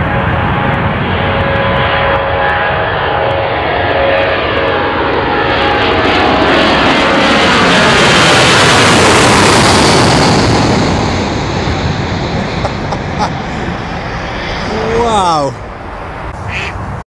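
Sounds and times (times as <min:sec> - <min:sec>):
jet aircraft passing overhead: 0:00.0 - 0:17.0.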